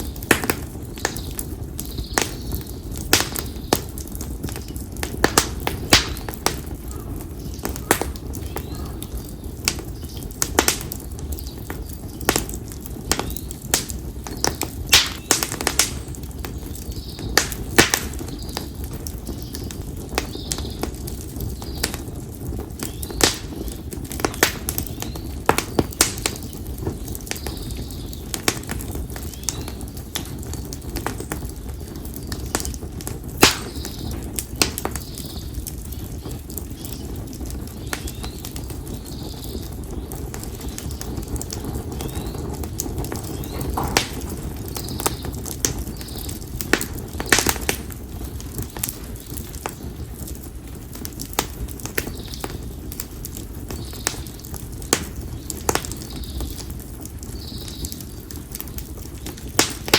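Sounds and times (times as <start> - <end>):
campfire crackling: 0.0 - 59.9
low rumble of flames: 0.0 - 59.9.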